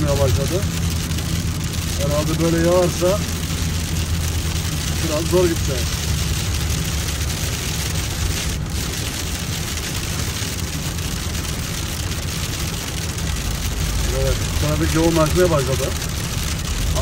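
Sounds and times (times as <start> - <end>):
engine and tyre rumble: 0.0 - 17.0
tyres hissing on wet road: 0.0 - 17.0.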